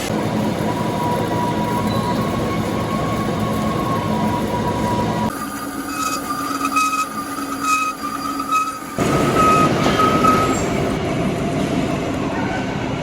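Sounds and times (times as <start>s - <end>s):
metal lathe whining: 0.0s - 11.0s
rough grinding noise: 0.1s - 11.0s.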